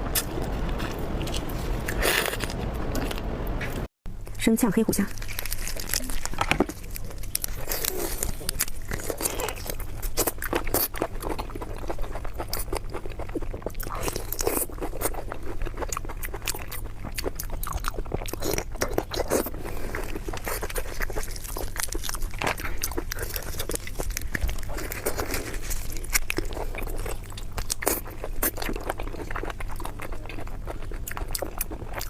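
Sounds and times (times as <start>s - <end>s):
person chewing and crunching food: 0.0s - 3.8s, 5.0s - 32.0s.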